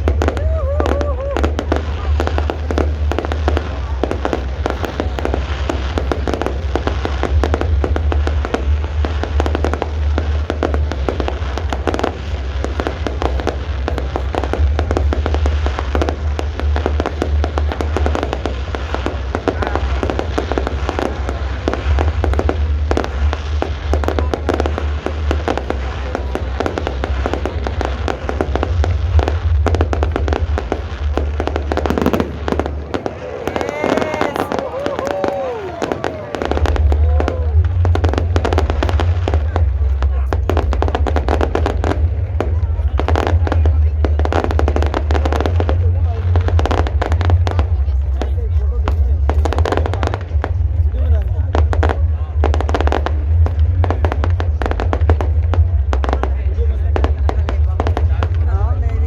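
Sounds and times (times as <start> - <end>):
fireworks bangs and crackles: 0.0 - 59.0
low rumble: 0.0 - 59.0.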